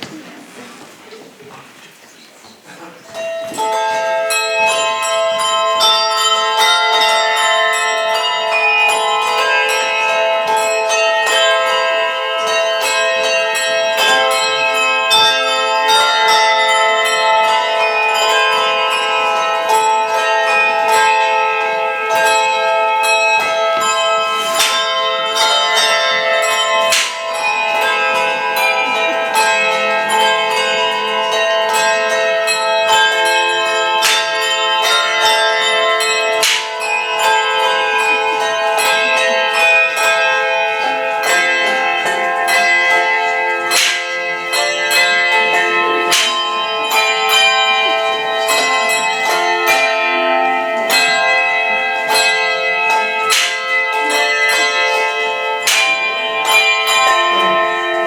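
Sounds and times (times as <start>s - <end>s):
handbell choir playing: 3.2s - 58.0s.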